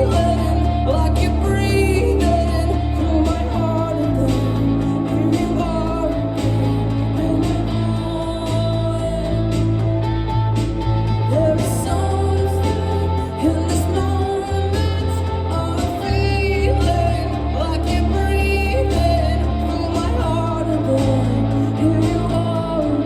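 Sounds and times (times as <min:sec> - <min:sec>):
bass line: 0:00.0 - 0:23.0
drums: 0:00.0 - 0:23.0
guitars: 0:00.0 - 0:23.0
live rock band playing: 0:00.0 - 0:23.0.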